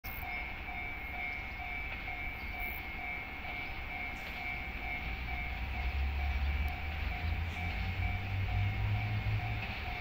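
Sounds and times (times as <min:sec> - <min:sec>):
low train rumble: 0:00.0 - 0:10.0
crossing warning bell ringing: 0:00.1 - 0:10.0.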